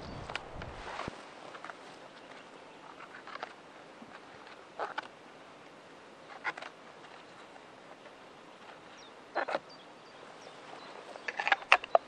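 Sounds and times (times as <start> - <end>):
clicks and rustles handling wood: 0.0 - 9.6, 10.7 - 12.0.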